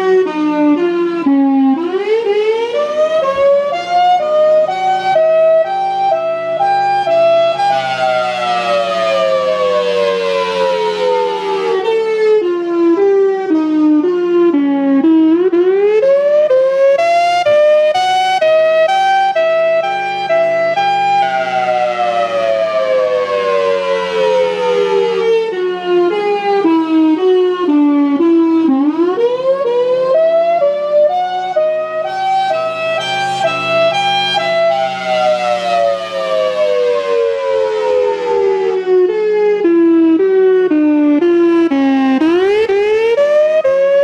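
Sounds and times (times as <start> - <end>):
outdoor warning siren: 0.0 - 44.0.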